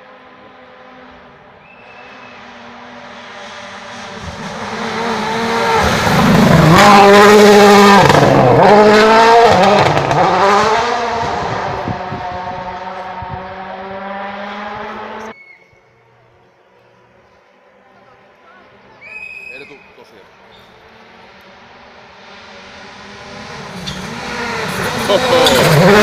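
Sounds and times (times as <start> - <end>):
rally car engine passing: 0.0 - 15.4, 16.1 - 26.0.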